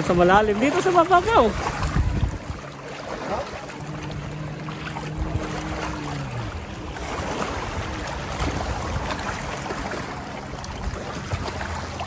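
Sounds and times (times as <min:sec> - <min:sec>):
low steady hum: 0:00.0 - 0:12.0
people wading through water: 0:00.0 - 0:12.0.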